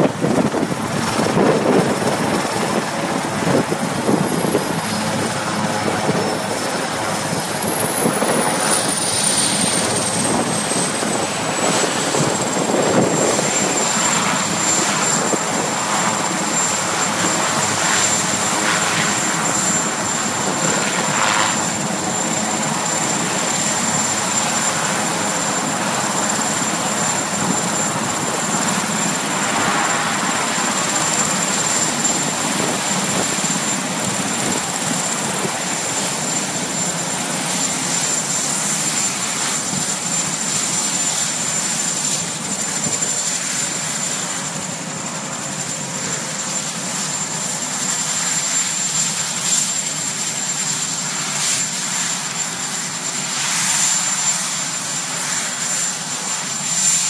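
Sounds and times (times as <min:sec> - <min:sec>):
helicopter rotor and engine rumble: 0:00.0 - 0:57.0
high turbine whine: 0:00.0 - 0:57.0.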